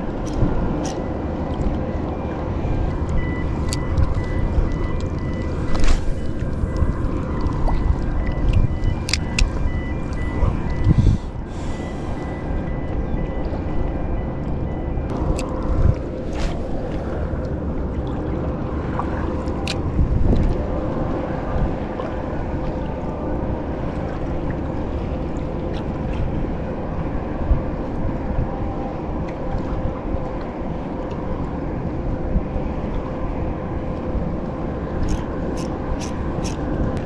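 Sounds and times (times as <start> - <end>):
choppy sea water: 0.0 - 37.0
wind buffeting microphone: 0.0 - 37.0.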